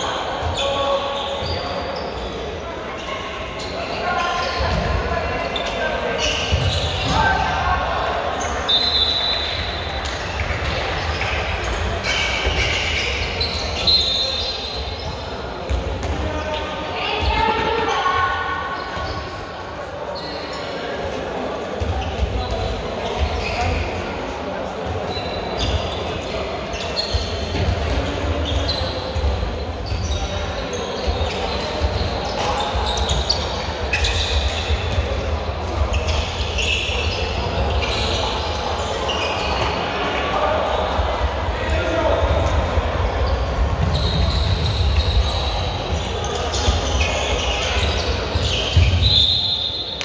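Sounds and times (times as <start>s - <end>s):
sports shoes squeaking: 0.0s - 7.4s, 8.4s - 18.0s, 20.1s - 20.8s, 21.8s - 24.0s, 25.0s - 40.0s, 41.7s - 50.0s.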